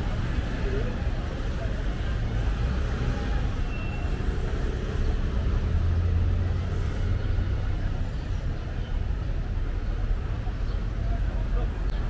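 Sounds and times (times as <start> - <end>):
deep vehicle rumble: 0.0 - 12.0
road traffic: 0.0 - 12.0.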